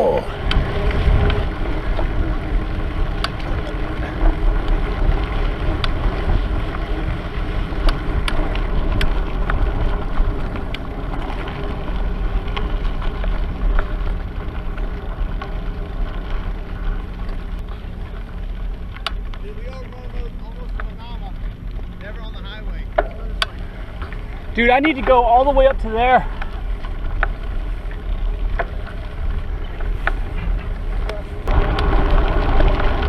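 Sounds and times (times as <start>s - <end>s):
bicycle clicks and rattles: 0.0s - 33.0s
wind rumbling on microphone: 0.0s - 33.0s.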